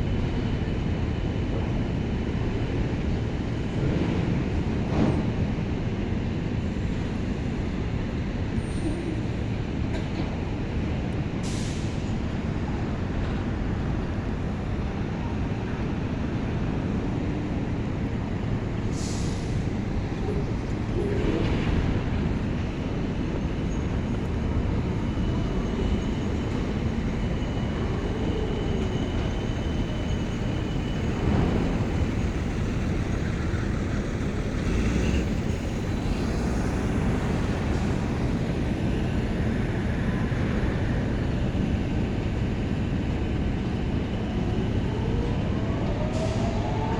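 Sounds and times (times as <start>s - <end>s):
engine low rumble: 0.0s - 46.9s.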